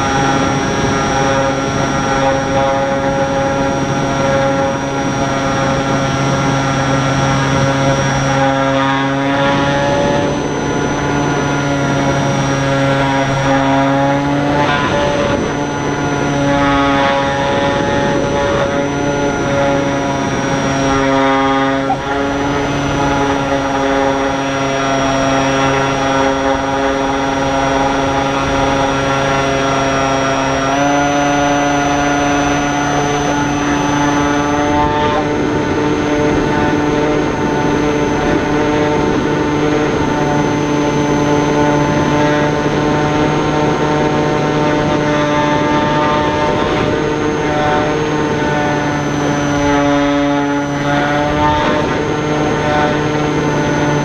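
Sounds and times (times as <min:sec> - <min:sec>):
small propeller motor buzzing: 0:00.0 - 0:54.0
wind rush: 0:00.0 - 0:54.0.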